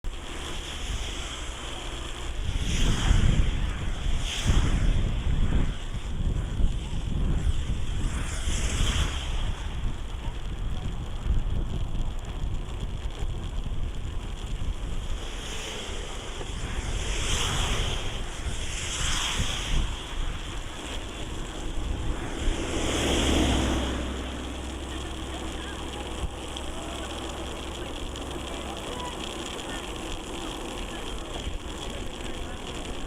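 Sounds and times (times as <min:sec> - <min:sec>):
rain hissing: 0:00.0 - 0:33.0
wind rumbling on microphone: 0:00.0 - 0:33.0.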